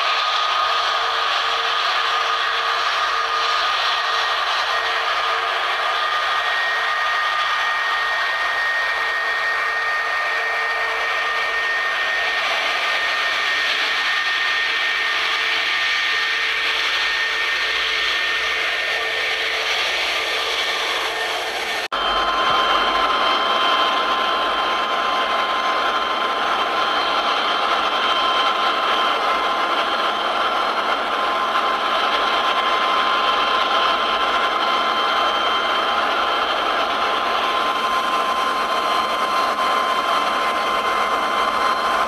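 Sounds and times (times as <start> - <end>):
jet engine rushing hiss: 0.0 - 42.0
high whining tones: 0.4 - 42.0.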